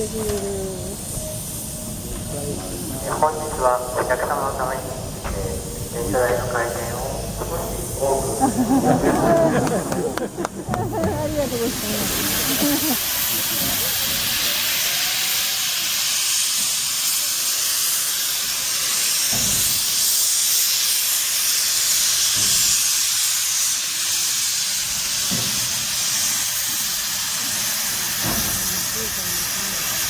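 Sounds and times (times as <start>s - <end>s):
steam locomotive hissing: 0.0s - 30.0s.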